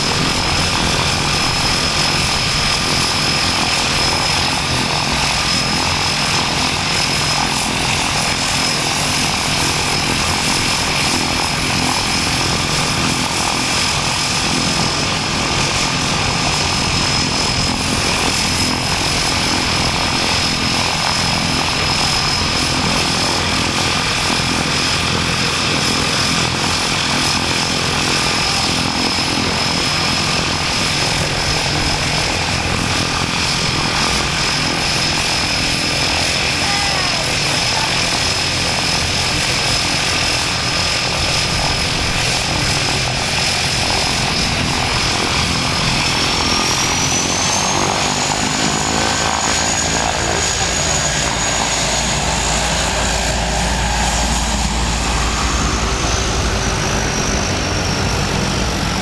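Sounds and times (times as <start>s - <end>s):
high turbine whine: 0.0s - 59.0s
propeller drone: 0.0s - 59.0s.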